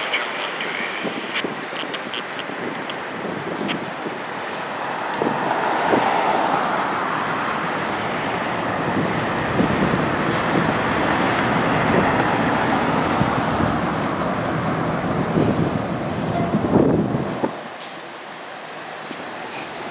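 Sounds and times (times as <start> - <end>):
jet engines roaring at takeoff: 0.0 - 19.9.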